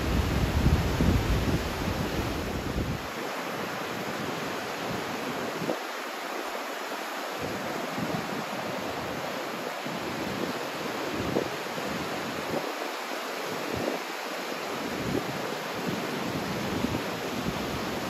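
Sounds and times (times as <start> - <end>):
wind gusts on microphone: 0.0 - 6.0, 7.4 - 18.0.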